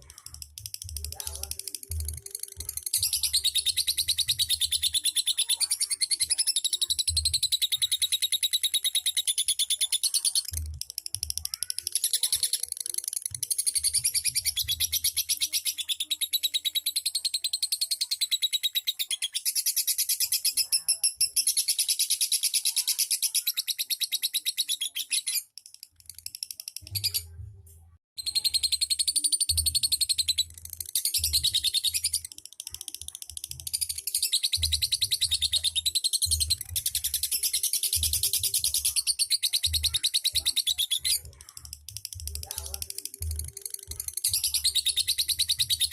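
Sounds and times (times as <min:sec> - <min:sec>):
bird chattering trill: 0:00.0 - 0:27.3, 0:28.2 - 0:45.9.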